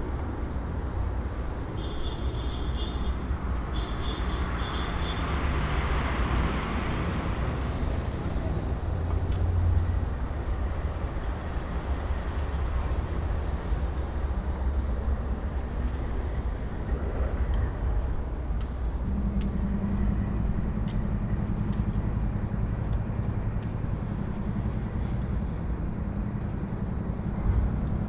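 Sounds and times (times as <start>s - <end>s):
vehicles rumbling by: 0.0s - 28.0s.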